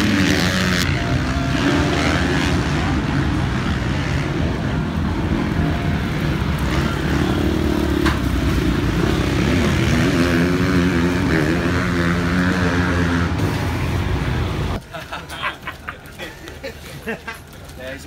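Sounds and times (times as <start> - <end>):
motocross bike engine revving: 0.0 - 14.8.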